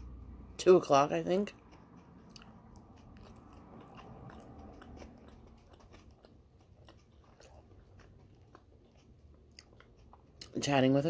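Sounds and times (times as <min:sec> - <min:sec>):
chewing food: 0:00.0 - 0:11.0
mouth and teeth clicks: 0:01.5 - 0:10.6.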